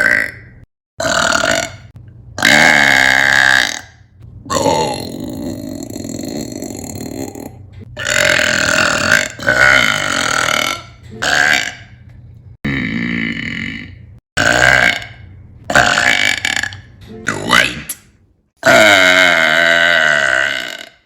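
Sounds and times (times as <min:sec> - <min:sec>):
woman burping loudly: 0:00.0 - 0:12.0, 0:12.7 - 0:16.9, 0:18.6 - 0:21.0.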